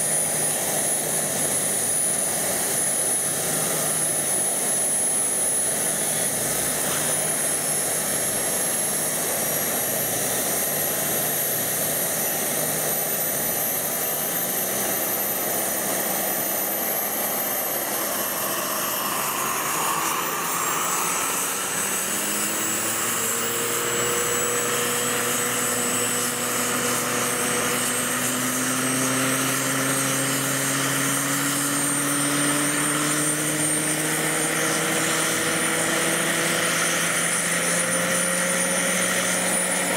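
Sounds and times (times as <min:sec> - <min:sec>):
low rotor hum: 0:00.0 - 0:39.9
model helicopter high whine: 0:00.0 - 0:39.9.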